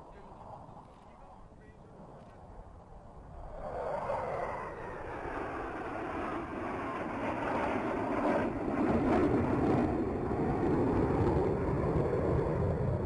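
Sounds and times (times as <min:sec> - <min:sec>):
jet aircraft flying past: 0:01.9 - 0:13.0.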